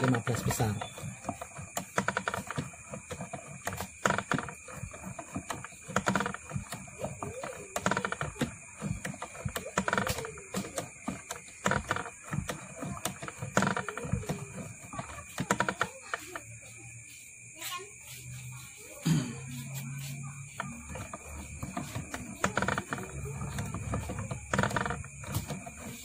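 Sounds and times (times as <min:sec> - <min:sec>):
winding jig clicking and clattering: 0:00.0 - 0:16.3, 0:20.8 - 0:26.0.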